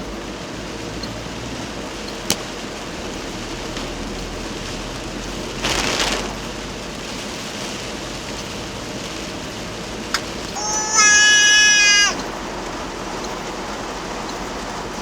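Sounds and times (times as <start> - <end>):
heavy rain falling: 0.0 - 15.0
rush of water: 2.3 - 15.0.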